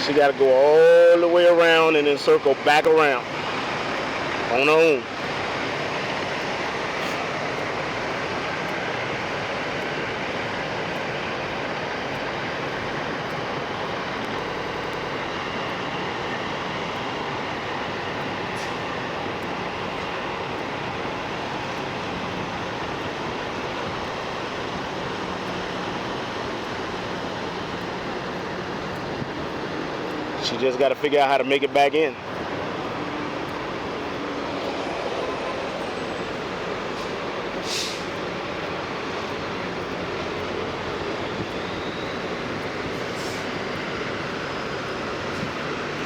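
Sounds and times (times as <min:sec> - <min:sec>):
diesel trucks idling: 0:00.0 - 0:46.0
faint low engine hum: 0:00.0 - 0:46.0.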